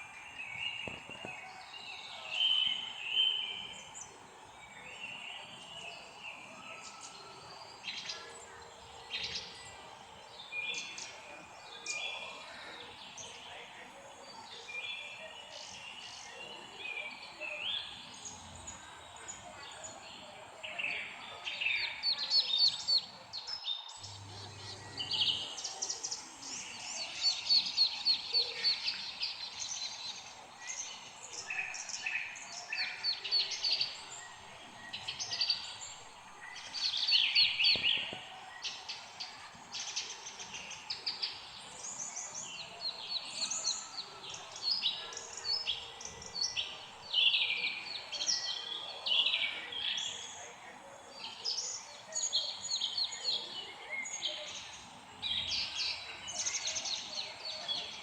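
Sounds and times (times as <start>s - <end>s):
songbirds chirping and singing: 0.0s - 58.0s.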